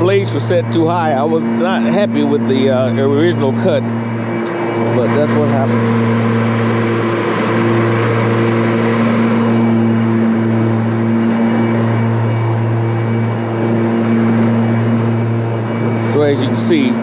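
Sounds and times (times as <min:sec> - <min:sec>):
blades cutting leaves: 0:00.0 - 0:17.0
electric mower motor hum: 0:00.0 - 0:17.0.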